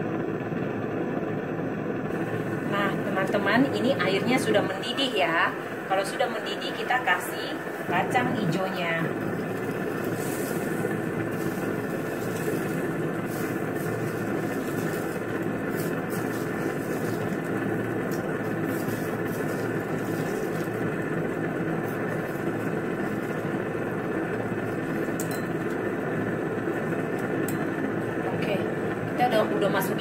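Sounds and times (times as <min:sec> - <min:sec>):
faint hum: 0:00.0 - 0:30.0
water boiling rushing: 0:02.1 - 0:30.0.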